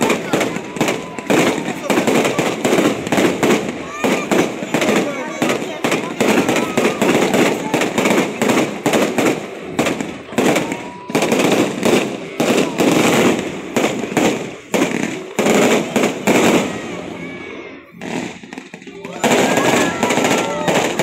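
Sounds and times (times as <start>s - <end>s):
firework shells bursting: 0.0s - 17.0s, 18.0s - 21.0s
faint firework whistles: 0.0s - 21.0s
firework crackle: 0.0s - 21.0s.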